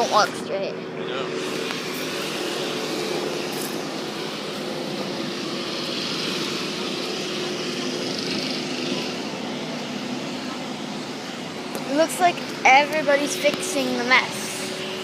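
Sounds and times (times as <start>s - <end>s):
steady engine drone: 0.0s - 15.0s.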